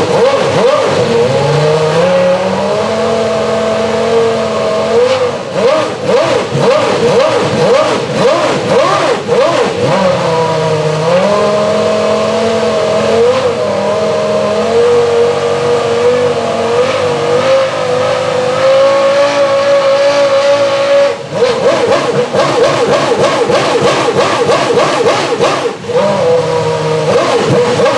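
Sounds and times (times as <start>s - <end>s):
racing car engine revving: 0.0s - 27.9s.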